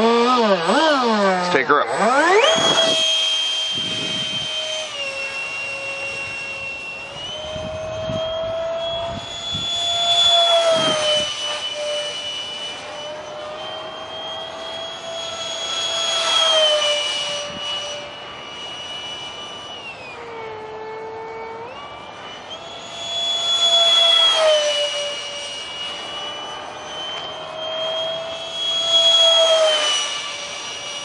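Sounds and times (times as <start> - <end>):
electric ducted fan whining: 0.0 - 31.0.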